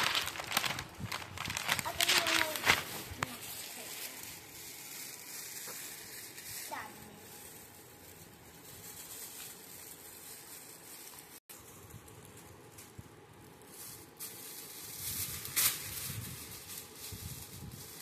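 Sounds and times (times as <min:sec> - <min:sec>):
gift wrap crinkling and rustling: 0:00.0 - 0:18.0.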